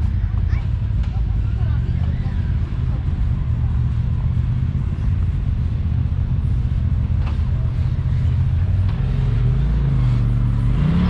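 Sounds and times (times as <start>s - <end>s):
utility vehicle engine rumbling: 0.0s - 11.0s.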